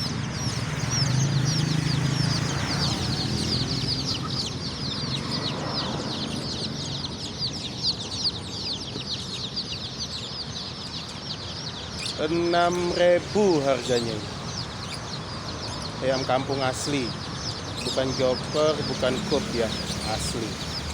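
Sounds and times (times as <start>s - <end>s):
chicks peeping: 0.0s - 20.9s.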